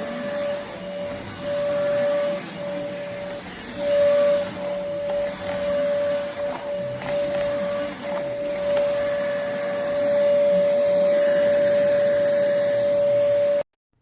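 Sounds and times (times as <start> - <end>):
vacuum cleaner running: 0.0 - 13.7.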